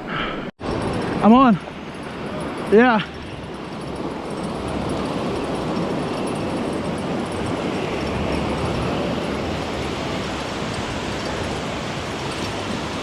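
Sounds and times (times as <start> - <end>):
wind on microphone: 0.6 - 13.0.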